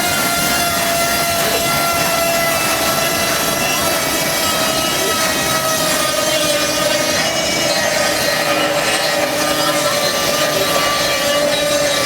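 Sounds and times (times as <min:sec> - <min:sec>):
sawmill whining drone: 0:00.0 - 0:12.0.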